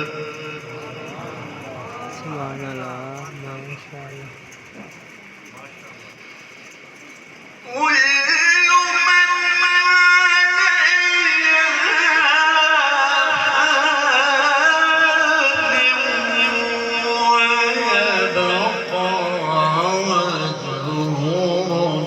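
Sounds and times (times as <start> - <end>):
man reciting melodically: 0.0 - 4.4, 7.6 - 22.0.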